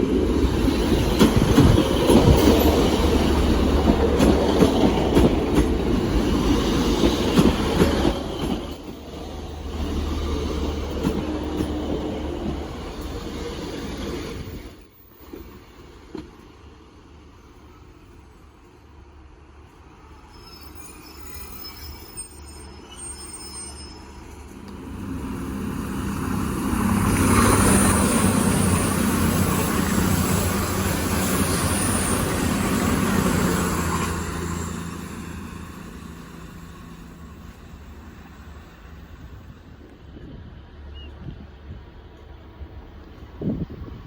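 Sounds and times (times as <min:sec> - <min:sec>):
train passing: 0:00.0 - 0:44.0.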